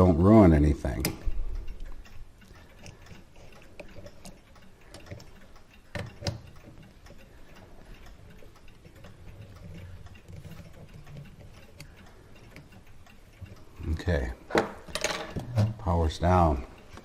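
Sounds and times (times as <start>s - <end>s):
clock ratchet clicking: 0.0s - 17.0s.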